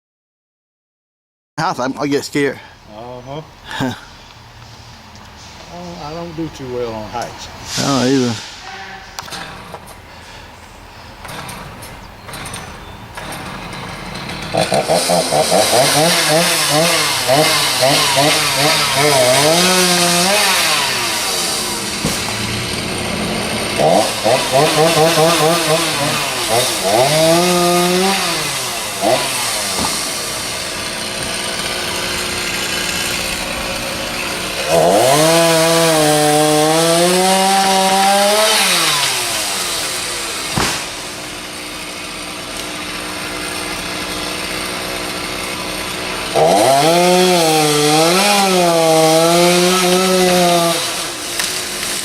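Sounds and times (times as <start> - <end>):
chainsaw revving: 9.2 - 10.4, 11.2 - 52.0.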